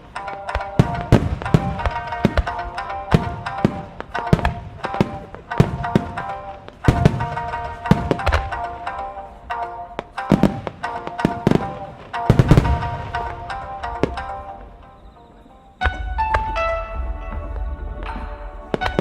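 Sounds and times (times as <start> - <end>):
fireworks bangs and booms: 0.0 - 15.1, 15.8 - 19.0
music over loudspeakers: 0.0 - 19.0.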